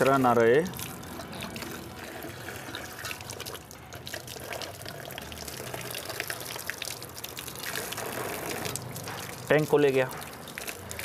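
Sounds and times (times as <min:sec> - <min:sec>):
tap water splashing on metal: 0:00.0 - 0:11.0.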